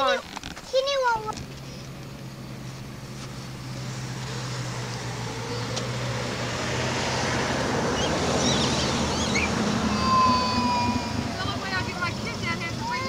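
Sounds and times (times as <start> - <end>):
road vehicle passing: 0.7 - 13.0.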